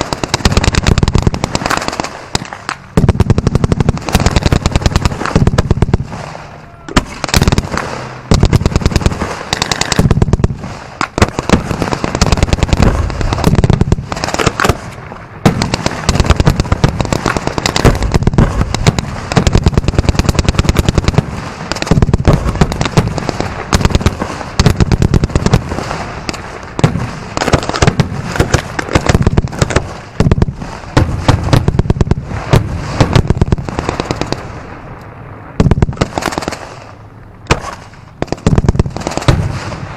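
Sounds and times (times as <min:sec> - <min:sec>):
fireworks booms: 0:00.0 - 0:39.9
fireworks crackling: 0:00.0 - 0:39.9.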